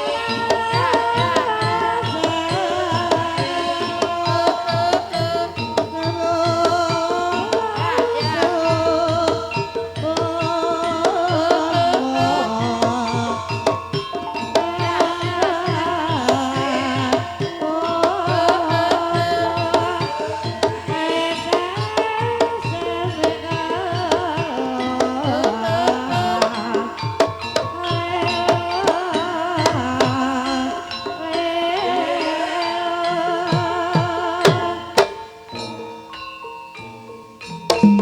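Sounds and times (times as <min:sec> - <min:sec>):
hand drums beating: 0:00.0 - 0:35.8, 0:37.4 - 0:38.0
ringing metallophone notes: 0:00.0 - 0:38.0
wavering high melody: 0:00.0 - 0:38.0.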